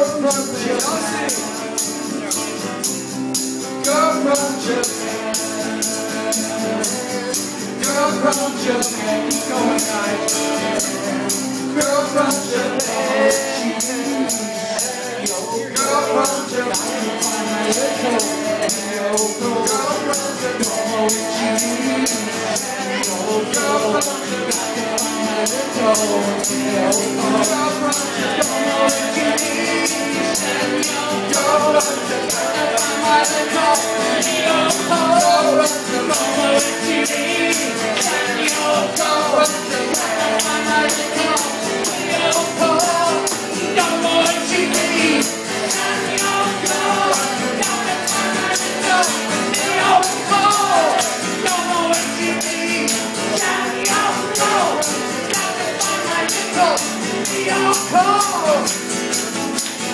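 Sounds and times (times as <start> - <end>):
high-pitched percussion beat: 0.0 - 59.9
men singing: 0.0 - 59.9
strummed acoustic guitar: 0.0 - 59.9.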